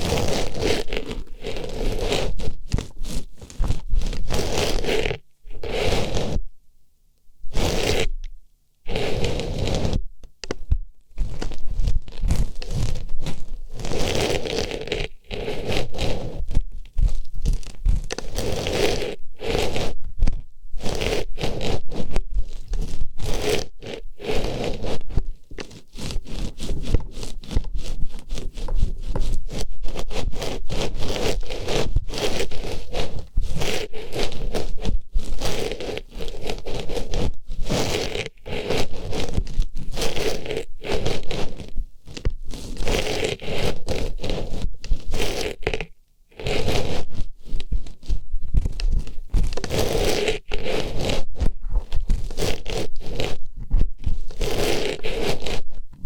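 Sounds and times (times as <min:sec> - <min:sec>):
scraping and rustling on microphone: 0:00.0 - 0:06.5, 0:07.4 - 0:08.2, 0:08.8 - 0:56.0.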